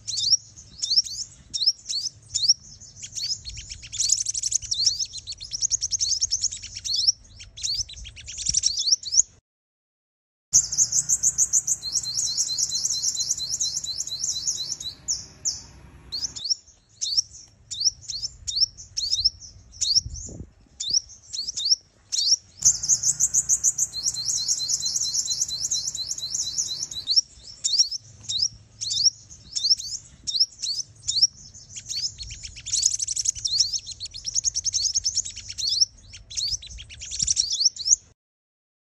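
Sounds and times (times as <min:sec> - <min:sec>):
bird chirps and trills: 0:00.0 - 0:09.3, 0:10.6 - 0:38.1.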